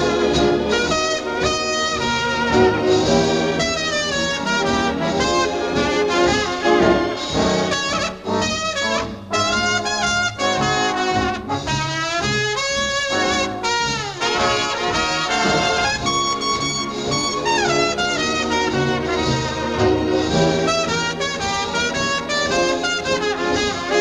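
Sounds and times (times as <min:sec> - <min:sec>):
upbeat jazz on brass instruments: 0:00.0 - 0:24.0.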